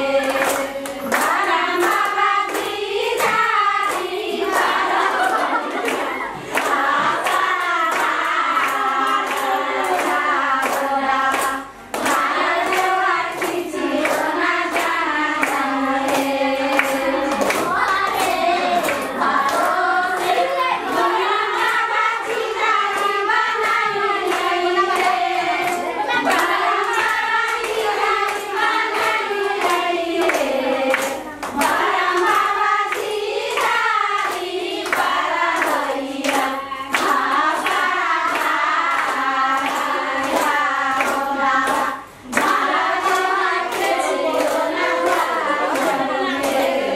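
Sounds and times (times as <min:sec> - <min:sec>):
group of people singing: 0:00.0 - 0:46.9
rhythmic hand clapping: 0:00.0 - 0:46.9.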